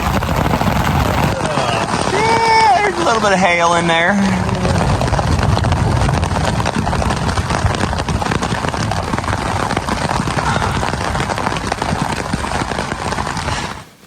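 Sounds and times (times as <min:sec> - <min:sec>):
rain and hail on poncho: 0:00.0 - 0:14.0.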